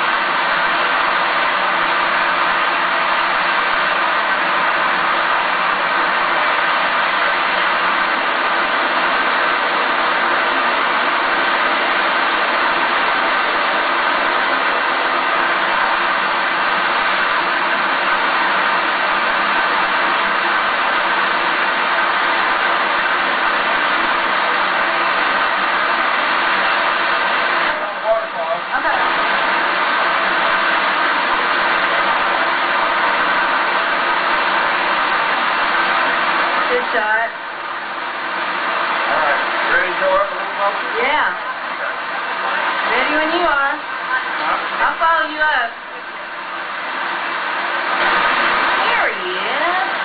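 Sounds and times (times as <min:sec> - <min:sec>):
waterfall cascading over rocks: 0:00.0 - 0:50.0.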